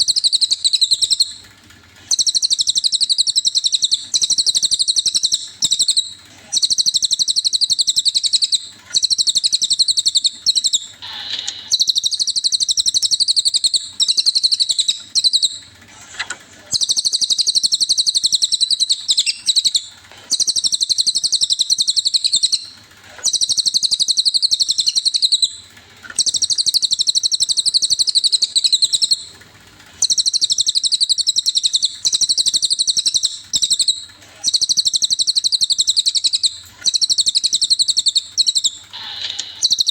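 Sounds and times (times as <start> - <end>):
bird singing fast trills: 0.0 - 1.4, 2.1 - 15.7, 16.7 - 29.3, 30.0 - 39.9.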